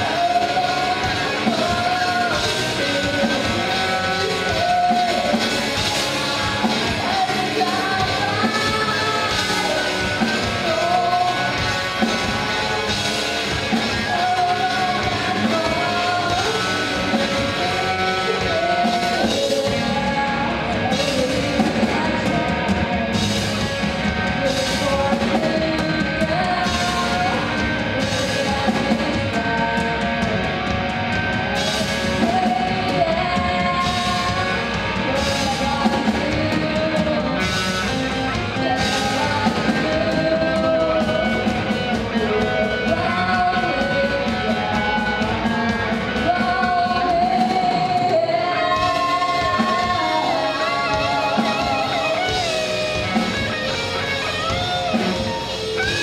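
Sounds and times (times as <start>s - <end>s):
lead singer singing: 0.0s - 56.0s
live rock band playing: 0.0s - 56.0s.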